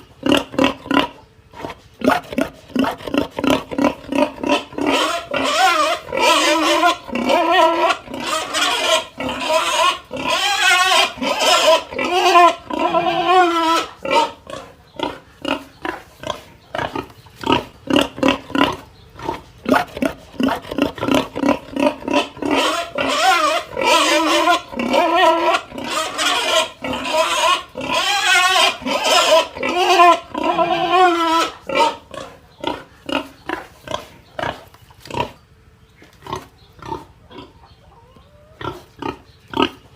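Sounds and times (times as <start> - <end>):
pig grunting: 0.0 - 35.4, 36.2 - 39.9
pig squealing: 0.0 - 35.4, 36.3 - 39.9.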